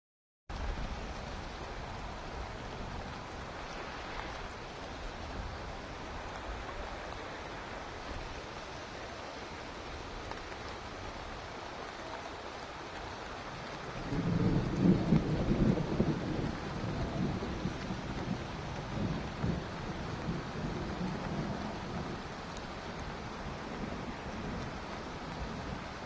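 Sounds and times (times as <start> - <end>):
steady rain hiss: 0.5 - 26.0.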